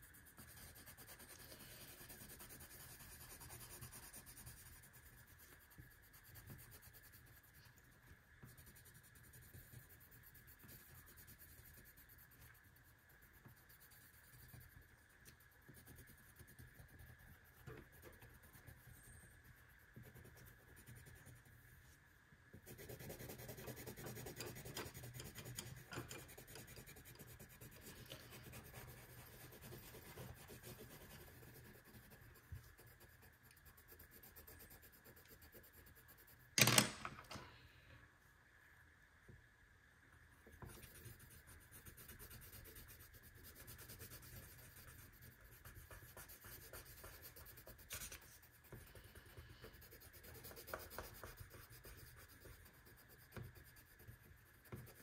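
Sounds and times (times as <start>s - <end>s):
marker scratching on paper: 0.0s - 21.6s, 22.6s - 36.9s, 40.6s - 55.0s.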